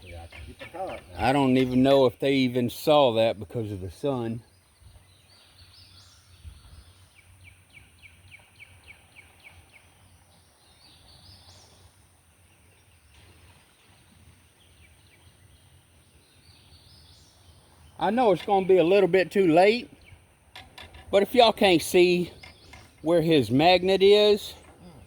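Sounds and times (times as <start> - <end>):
faint songbird song: 0.0 - 25.0
low outdoor background noise: 0.0 - 25.0.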